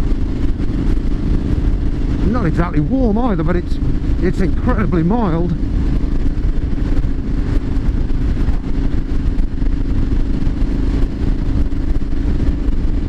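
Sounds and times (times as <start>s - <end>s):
motorcycle engine cruising: 0.0s - 13.0s
wind rush over microphone: 0.0s - 13.0s.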